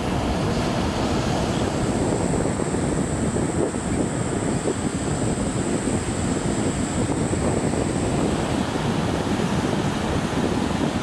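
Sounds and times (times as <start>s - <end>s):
high steady whine: 0.0s - 11.0s
surf rushing: 0.0s - 11.0s
wind buffeting microphone: 0.0s - 11.0s.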